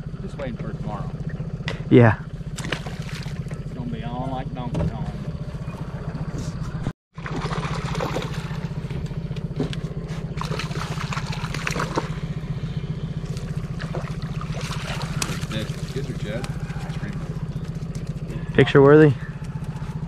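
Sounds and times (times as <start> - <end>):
outboard motor humming: 0.0 - 20.0.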